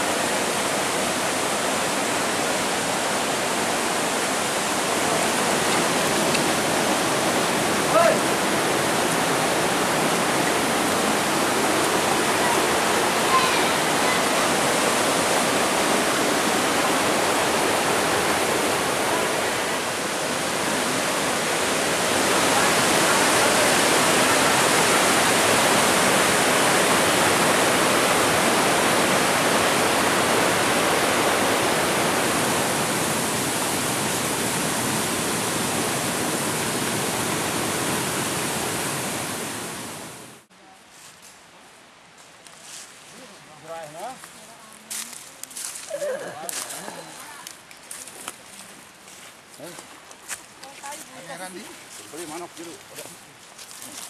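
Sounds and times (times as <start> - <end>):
water cascading over rocks: 0.0 - 40.5, 42.9 - 54.0.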